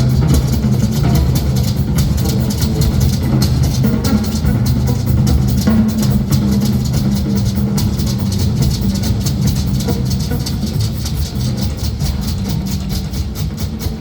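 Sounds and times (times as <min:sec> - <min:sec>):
drums and cymbals: 0:00.0 - 0:14.0.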